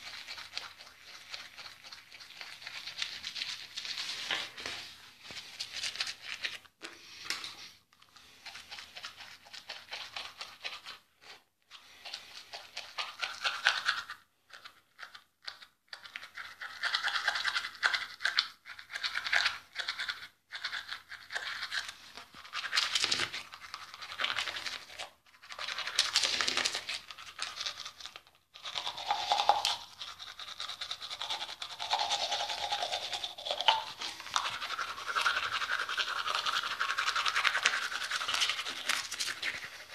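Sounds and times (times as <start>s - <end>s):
toothbrush scrubbing teeth: 0.0s - 39.9s.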